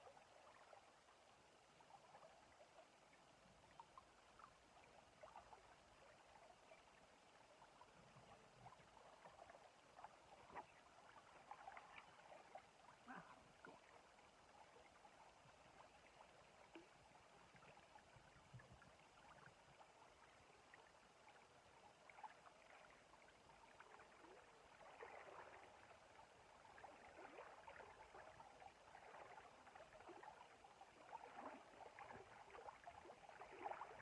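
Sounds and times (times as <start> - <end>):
small ticks and splashes: 0.1 - 34.0.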